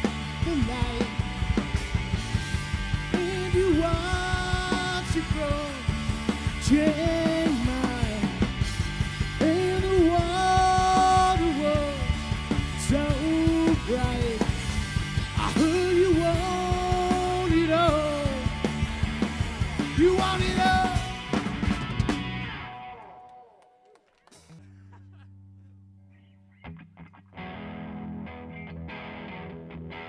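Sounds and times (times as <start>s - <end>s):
rock band playing: 0.0s - 23.3s, 26.7s - 30.0s.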